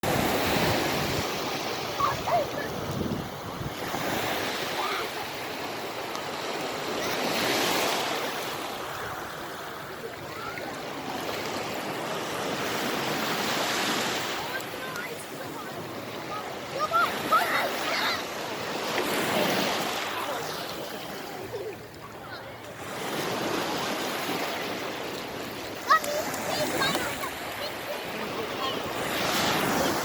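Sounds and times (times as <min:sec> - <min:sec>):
sea waves breaking on a beach: 0:00.0 - 0:30.0.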